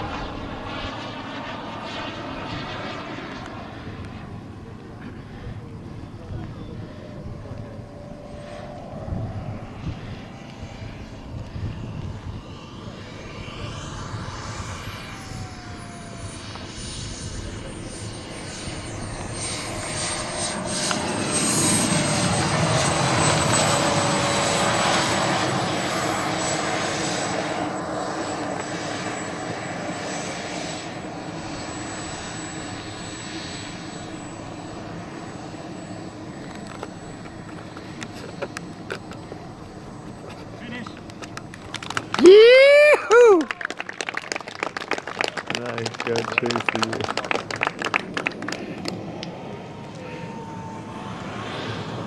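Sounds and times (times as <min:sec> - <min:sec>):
model jet turbine whining: 0:00.0 - 0:52.0.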